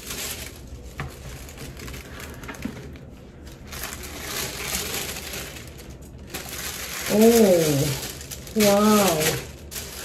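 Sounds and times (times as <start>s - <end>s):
tissue paper rustling: 0.0s - 10.0s.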